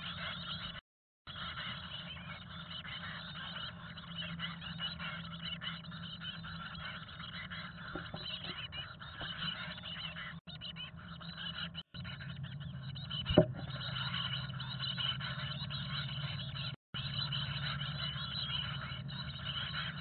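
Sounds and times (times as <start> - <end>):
low steady hum: 0.0 - 20.0
nestlings begging calls: 0.0 - 20.0.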